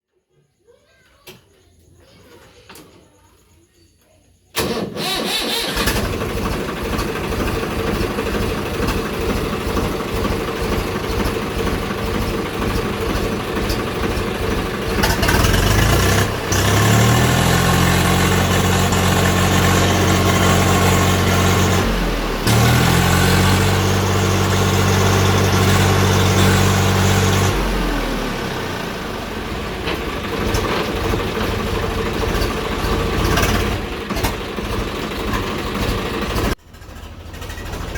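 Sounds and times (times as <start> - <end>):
tractor diesel engine running: 4.6 - 37.9.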